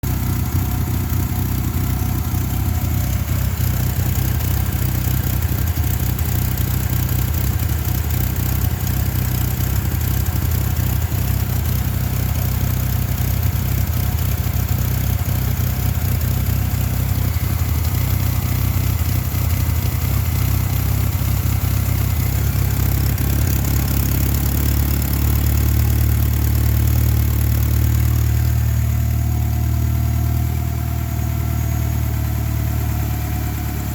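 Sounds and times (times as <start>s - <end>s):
car engine idling roughly: 0.0s - 33.9s.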